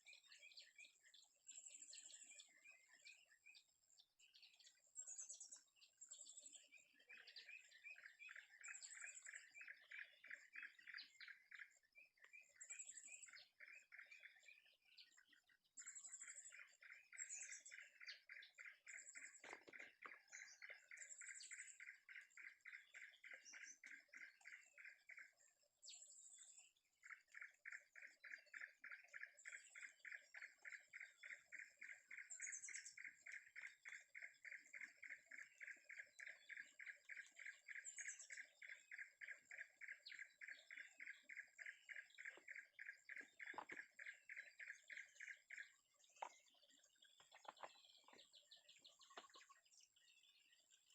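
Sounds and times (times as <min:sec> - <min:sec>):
birds calling and trilling: 0:00.0 - 0:50.9.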